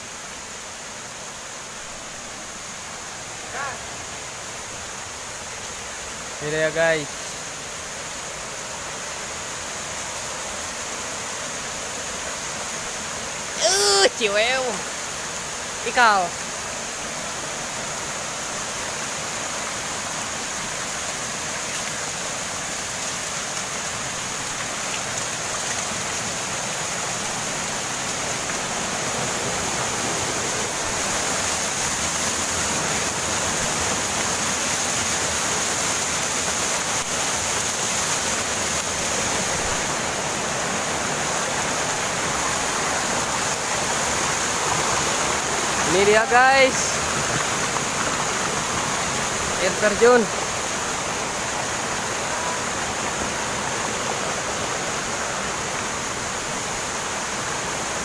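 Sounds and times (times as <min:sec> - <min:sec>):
waterfall and stream over rocks: 0:00.0 - 0:58.0.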